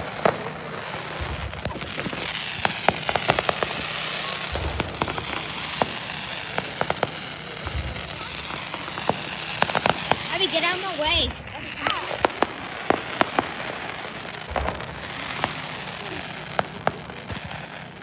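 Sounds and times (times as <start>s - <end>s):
deep firework thumps: 0.0s - 18.0s
fireworks crackling pops: 0.0s - 18.0s.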